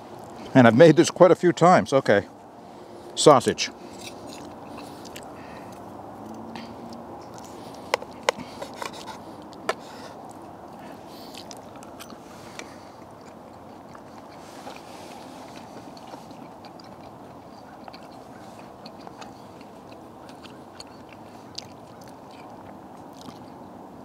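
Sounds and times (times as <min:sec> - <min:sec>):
steady background hiss: 0:00.0 - 0:24.0
chewing: 0:03.8 - 0:23.8.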